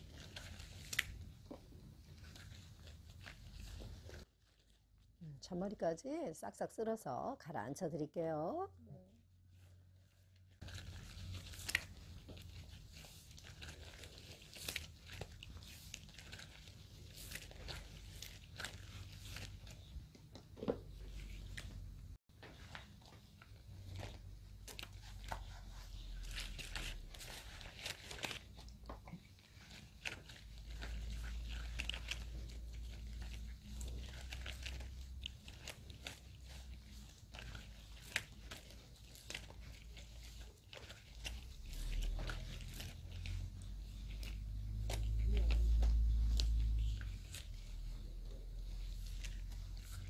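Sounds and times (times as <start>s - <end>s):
wet scratchy brush strokes in hair: 0.0s - 5.0s, 9.5s - 20.0s, 22.4s - 50.0s.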